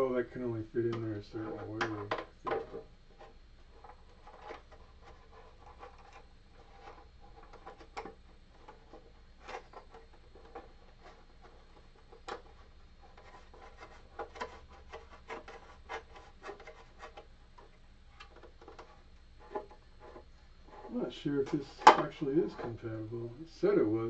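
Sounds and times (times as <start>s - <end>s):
plastic and metal clicking and scraping: 1.0s - 21.0s.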